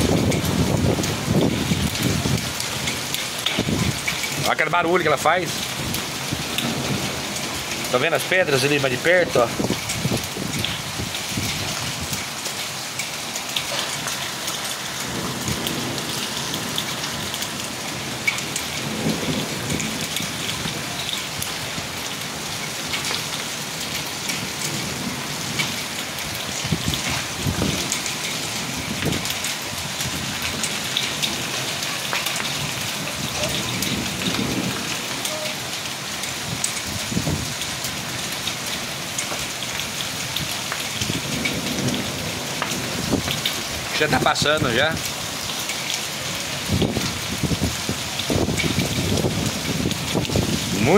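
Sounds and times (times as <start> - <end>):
hailstones ticking on pavers: 0.0 - 50.9
rain patter on pavement: 0.0 - 50.9.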